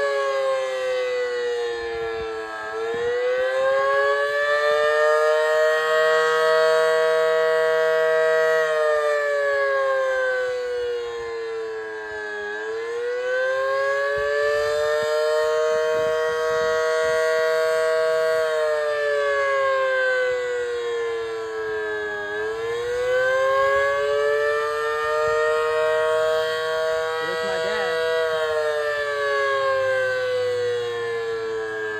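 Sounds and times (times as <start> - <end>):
outdoor warning siren wailing: 0.0 - 31.9.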